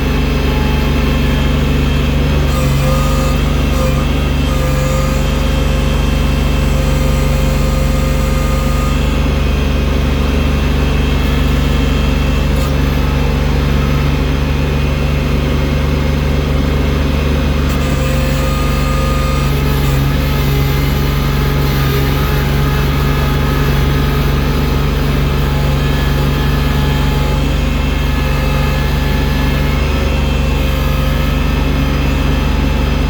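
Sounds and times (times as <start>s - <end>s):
machine engine deep drone: 0.0s - 33.0s.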